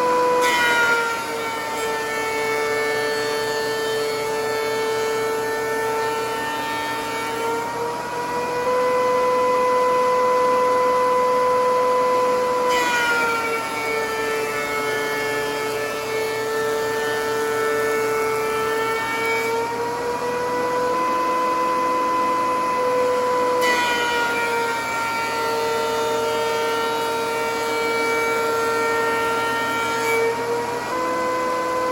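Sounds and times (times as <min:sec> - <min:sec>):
thickness planer whining: 0:00.0 - 0:31.9.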